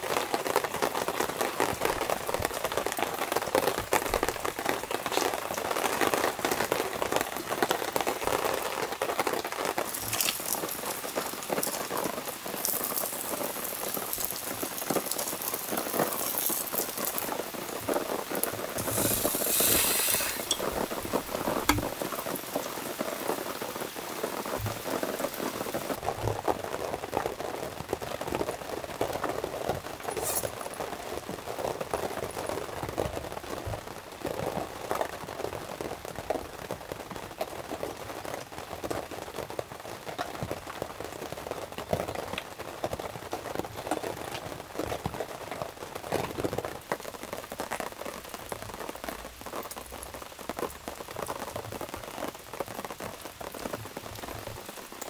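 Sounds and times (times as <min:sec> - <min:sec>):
rain pattering on a tent: 0:00.0 - 0:55.0.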